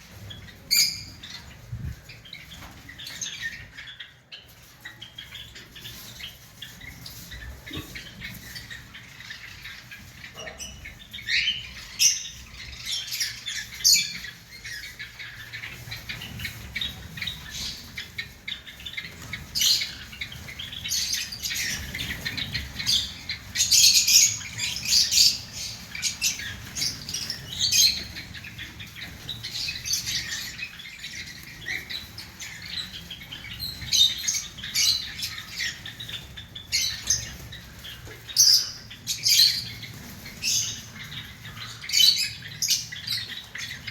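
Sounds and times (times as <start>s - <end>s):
sparrows chirping: 0.0s - 43.9s.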